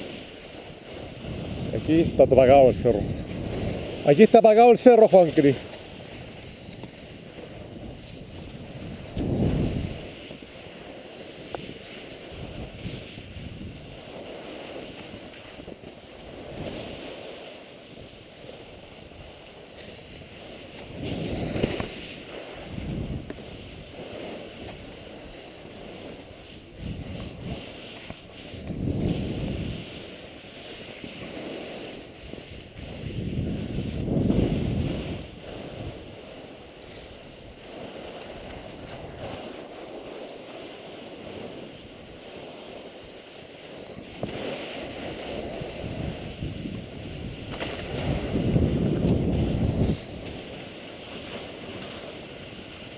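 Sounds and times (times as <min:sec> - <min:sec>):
wind buffeting microphone: 0:00.0 - 0:17.2, 0:17.9 - 0:39.7, 0:43.8 - 0:52.9.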